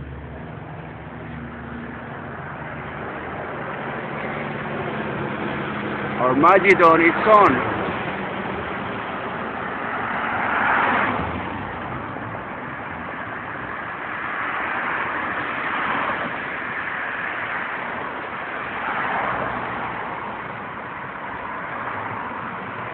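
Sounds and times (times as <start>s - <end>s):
road traffic noise: 0.0s - 22.9s.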